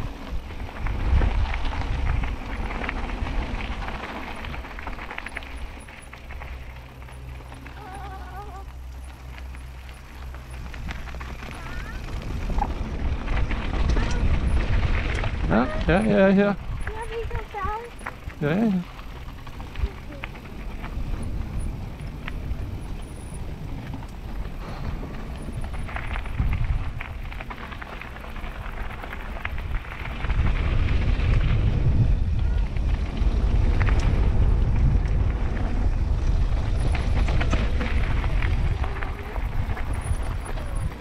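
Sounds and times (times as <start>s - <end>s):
mountain bike rattle and tyre noise: 0.0s - 41.0s
wind buffeting microphone: 0.0s - 41.0s.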